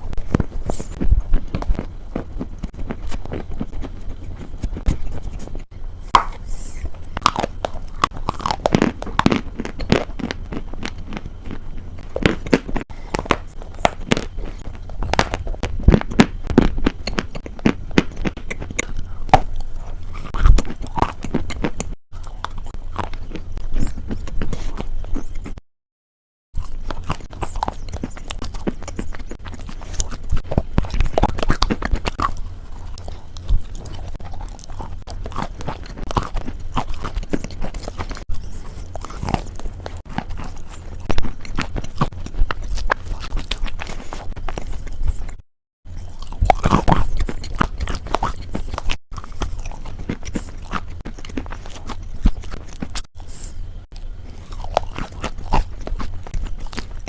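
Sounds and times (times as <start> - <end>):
chewing crunchy food: 0.0 - 25.6, 26.6 - 57.0.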